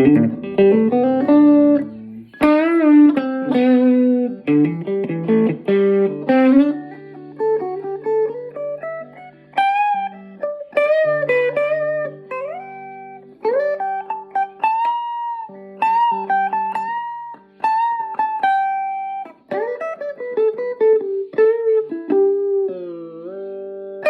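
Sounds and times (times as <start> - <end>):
solo guitar playing: 0.0 - 24.0.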